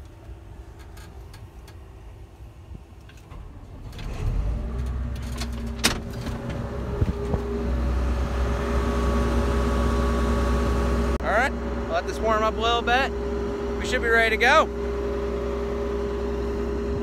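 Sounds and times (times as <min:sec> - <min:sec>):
diesel engine starting and running: 0:00.0 - 0:17.0.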